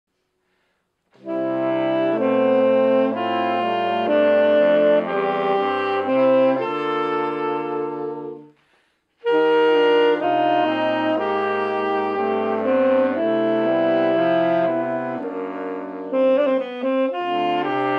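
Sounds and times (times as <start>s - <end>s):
saxophone quartet playing chords: 0.5s - 17.9s.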